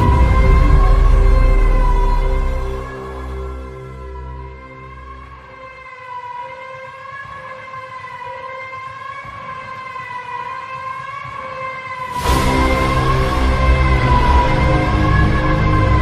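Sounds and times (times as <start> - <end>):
music with heavy low beat: 0.0 - 16.0.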